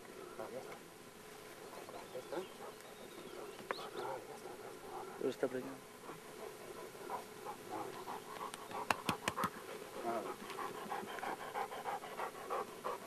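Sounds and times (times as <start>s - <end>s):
dog panting: 1.7s - 13.0s.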